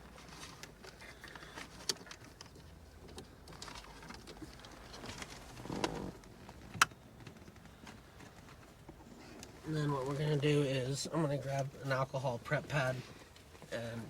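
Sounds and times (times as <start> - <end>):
faint clicks and rustles: 0.0 - 14.0.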